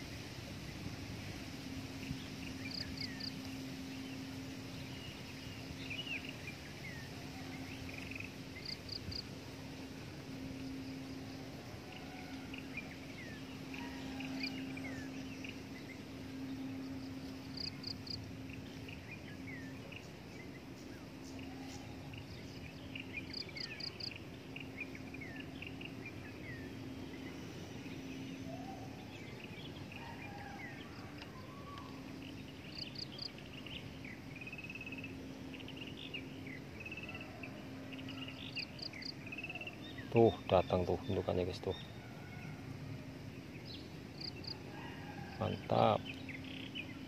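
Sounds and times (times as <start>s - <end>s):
small birds chirping: 0.0s - 47.0s
steady low hum: 0.0s - 47.0s.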